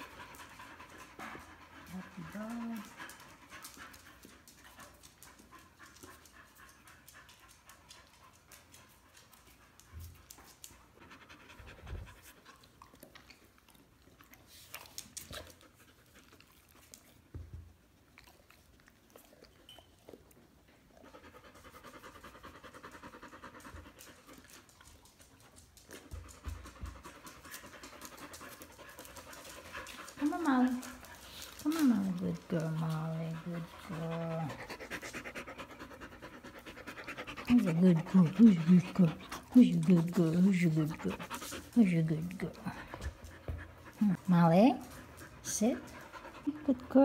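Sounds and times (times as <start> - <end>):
dog panting: 0.0 - 47.0.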